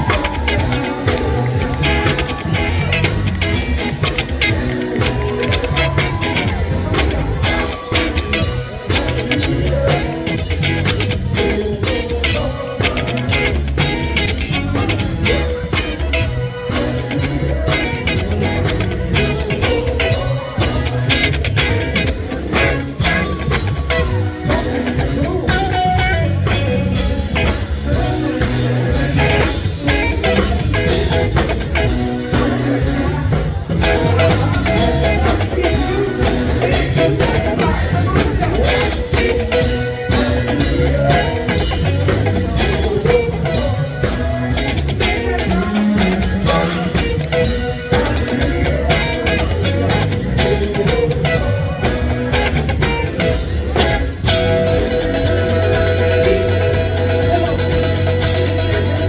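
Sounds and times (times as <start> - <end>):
funk band playing: 0.0 - 59.0.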